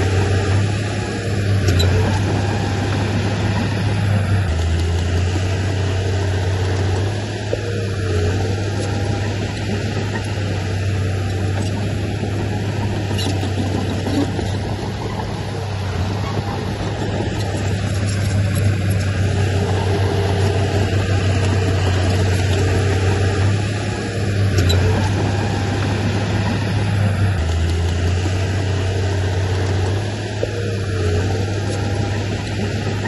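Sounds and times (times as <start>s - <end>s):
heavy machinery diesel engine: 0.0s - 33.0s.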